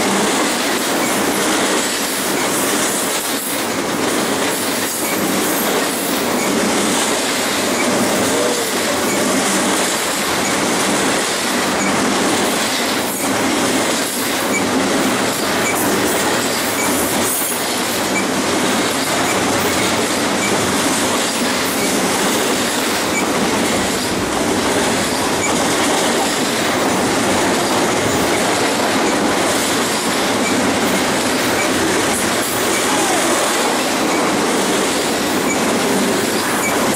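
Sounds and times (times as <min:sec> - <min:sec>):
freight train wheels on rails: 0:00.0 - 0:36.9
train clicks: 0:00.0 - 0:36.9.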